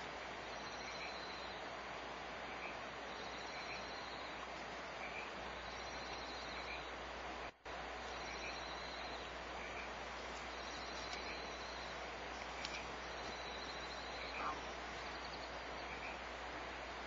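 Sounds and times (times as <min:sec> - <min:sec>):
steady hissing noise: 0:00.0 - 0:17.0.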